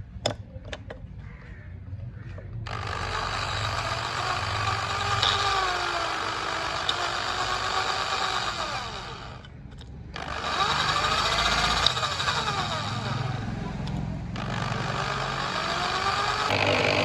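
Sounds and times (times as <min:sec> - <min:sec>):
electric motor and gears whining: 0:02.2 - 0:17.0.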